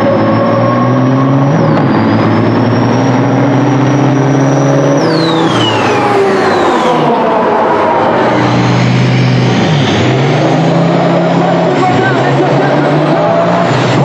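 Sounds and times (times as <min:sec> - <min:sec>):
diesel trucks accelerating: 0:00.0 - 0:14.0
turbocharger whine: 0:00.0 - 0:14.0.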